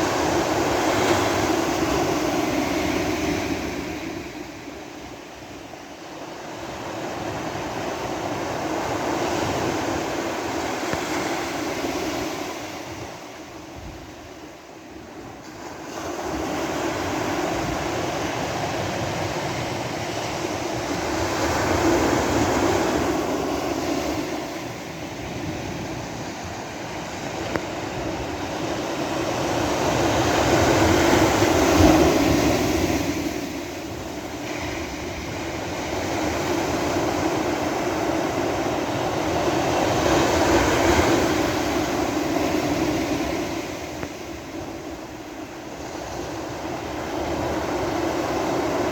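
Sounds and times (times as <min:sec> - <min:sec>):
waves breaking on beach: 0:00.0 - 0:48.9.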